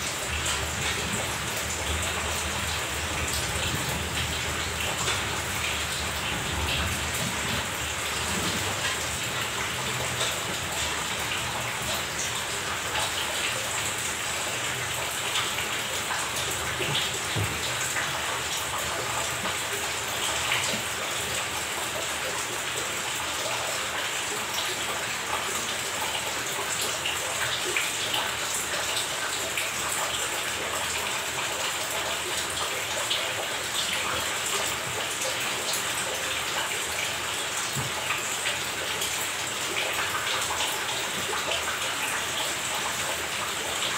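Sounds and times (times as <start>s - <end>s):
rushing splashing water: 0.0s - 43.9s.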